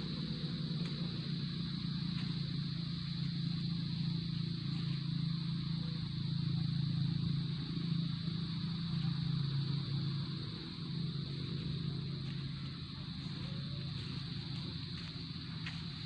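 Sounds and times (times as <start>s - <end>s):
constant low hum: 0.0s - 16.0s
high insect buzz: 0.0s - 16.0s.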